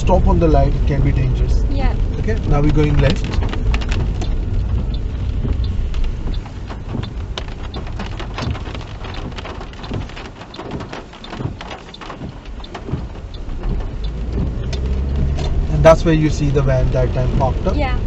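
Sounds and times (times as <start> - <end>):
car road rumble: 0.0 - 18.0
rain tapping on car: 0.0 - 18.0.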